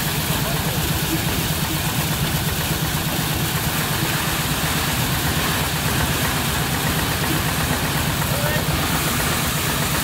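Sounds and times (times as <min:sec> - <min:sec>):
threshing machine droning: 0:00.0 - 0:10.0.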